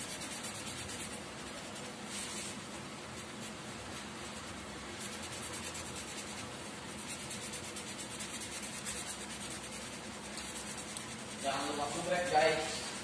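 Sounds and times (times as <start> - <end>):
marker pen scribbling on cardboard: 0.0 - 2.5, 3.1 - 13.0.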